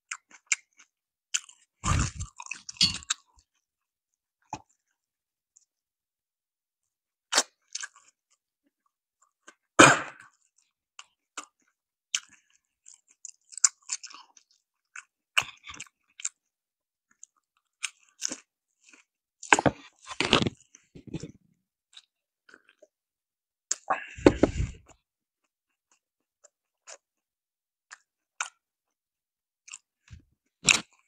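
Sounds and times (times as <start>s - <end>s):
chewing crispy fried chicken: 0.0s - 5.8s, 6.8s - 23.0s, 23.7s - 29.0s, 29.6s - 31.0s.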